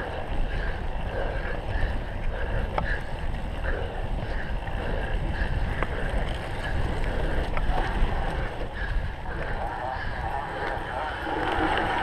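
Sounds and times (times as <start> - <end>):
bike rumbling over rough ground: 0.0 - 12.0
sharp clicks from bike: 0.0 - 12.0
wind buffeting microphone: 0.0 - 12.0.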